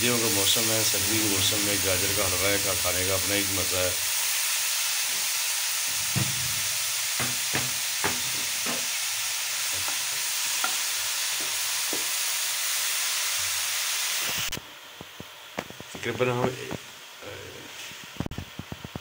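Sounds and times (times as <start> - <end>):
carrots sizzling in hot fat: 0.0 - 19.0.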